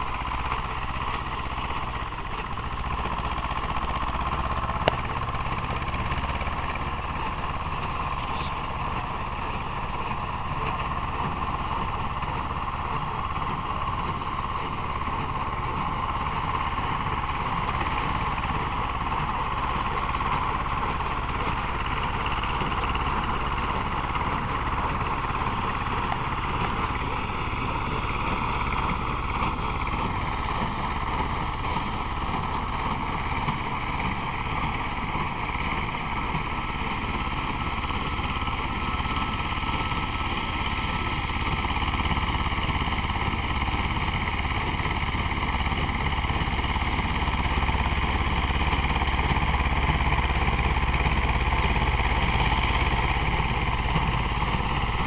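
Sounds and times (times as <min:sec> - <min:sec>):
hay baler working: 0:00.0 - 0:55.0
tractor diesel engine running: 0:00.0 - 0:55.0.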